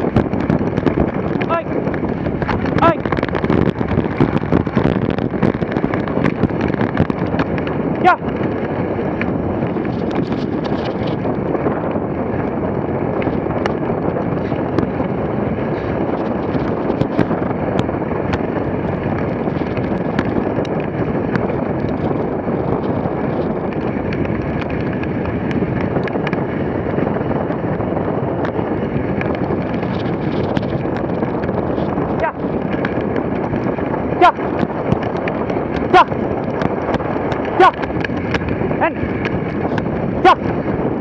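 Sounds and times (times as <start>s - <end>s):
wind rushing on microphone: 0.0s - 41.0s.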